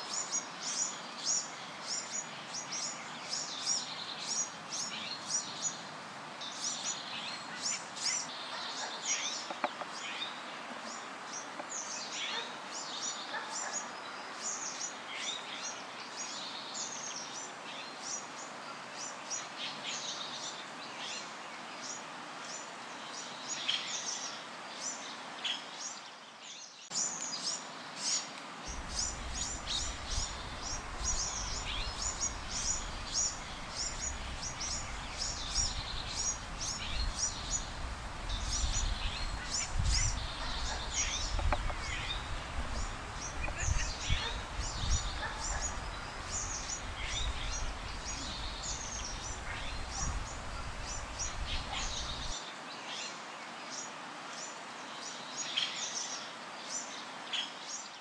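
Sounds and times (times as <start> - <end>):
background hiss: 0.0 - 58.0
small birds chirping: 0.0 - 58.0.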